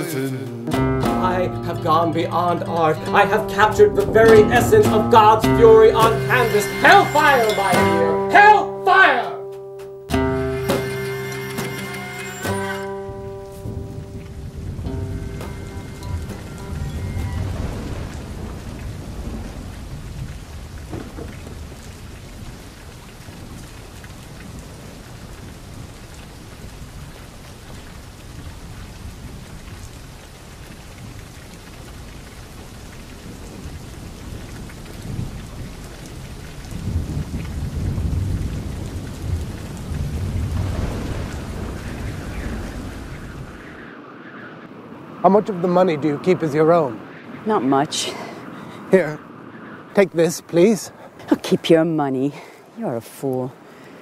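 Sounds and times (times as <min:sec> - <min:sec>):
steady rain: 0:00.0 - 0:09.2, 0:10.1 - 0:54.0
deep thunder rumbles: 0:00.8 - 0:07.6, 0:12.9 - 0:50.2.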